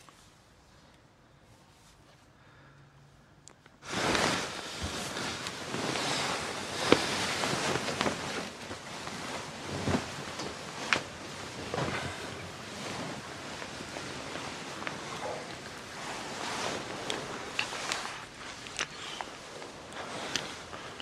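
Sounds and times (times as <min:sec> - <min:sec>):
bedding rustling: 0:03.8 - 0:21.0.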